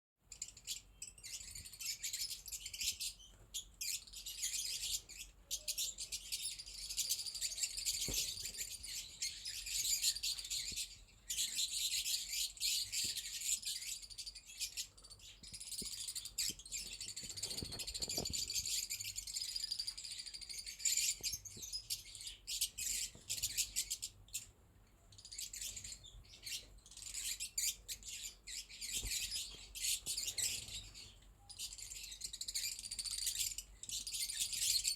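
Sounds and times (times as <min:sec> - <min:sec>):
lovebirds chirping and chattering: 0:00.2 - 0:34.9.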